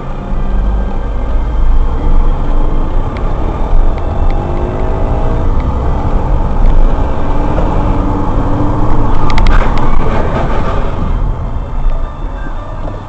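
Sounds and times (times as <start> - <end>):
car engine and road noise: 0.0 - 13.0
engine note rising: 0.0 - 13.0.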